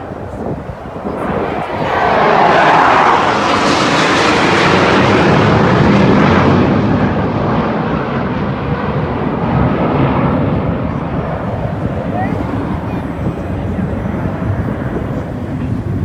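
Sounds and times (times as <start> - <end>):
jet aircraft roaring past: 0.0 - 16.0.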